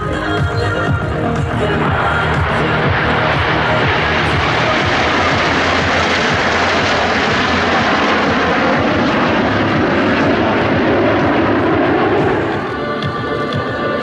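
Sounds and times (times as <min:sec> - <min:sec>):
airplane engine rushing: 0:00.0 - 0:14.0.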